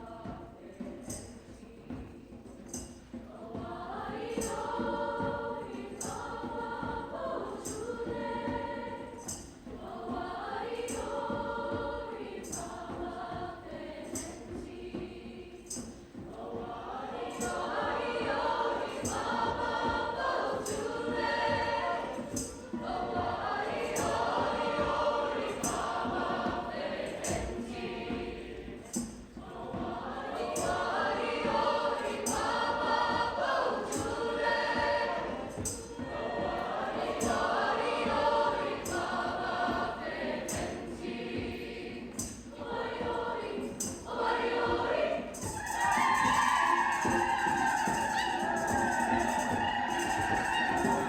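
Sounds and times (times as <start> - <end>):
choir singing: 0.0 - 51.0
percussion hits: 0.0 - 51.0.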